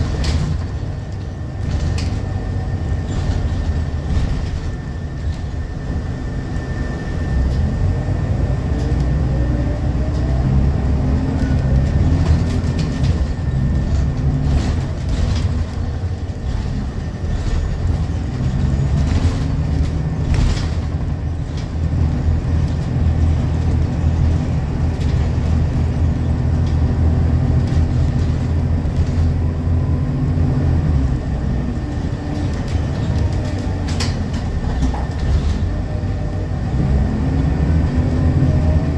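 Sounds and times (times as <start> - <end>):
bus engine droning: 0.0 - 38.9
rattles and clicks from bus body: 0.0 - 38.9.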